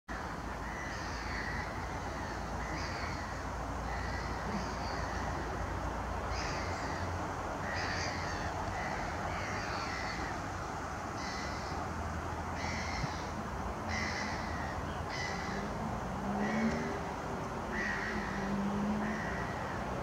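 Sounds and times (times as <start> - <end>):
bird calling: 0.1 - 5.6, 6.3 - 10.5, 11.2 - 11.9, 12.5 - 19.8.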